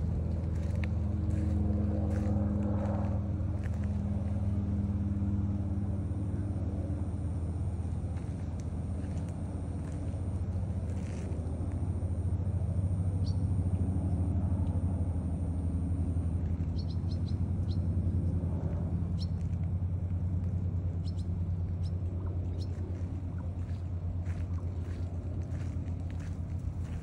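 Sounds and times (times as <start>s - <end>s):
pulsing engine-like rumble: 0.0s - 27.0s.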